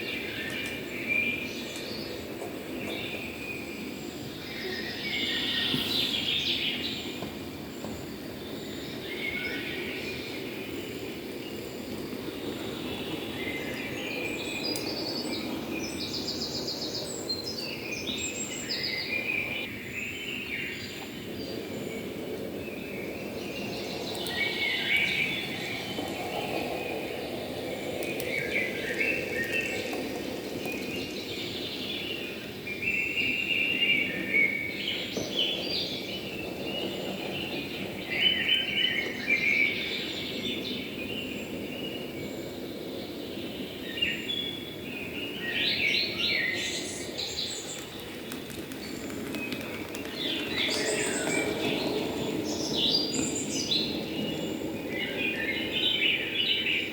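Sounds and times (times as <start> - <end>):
birds chirping and singing: 0.0 - 56.9.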